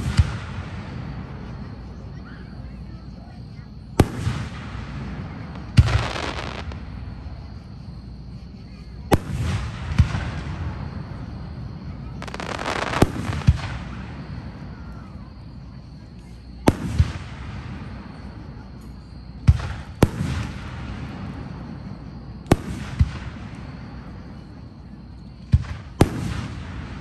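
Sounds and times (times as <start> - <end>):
crackling hiss: 0.0 - 27.0
fireworks bursting: 0.0 - 27.0.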